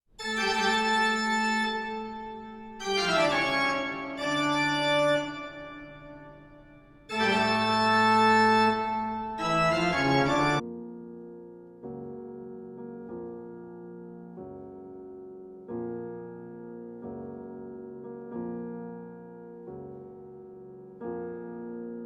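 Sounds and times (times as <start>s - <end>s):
organ-like keyboard chords: 0.2s - 22.0s.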